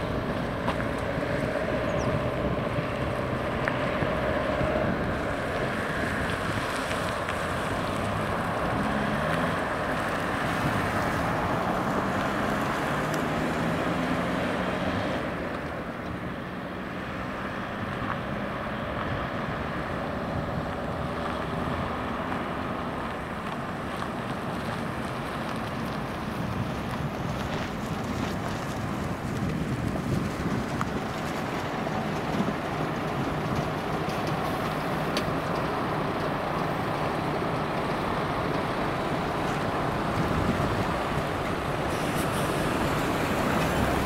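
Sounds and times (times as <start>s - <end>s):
wind buffeting microphone: 0.0s - 14.4s, 17.7s - 44.0s
cars passing on rough asphalt: 0.0s - 44.0s.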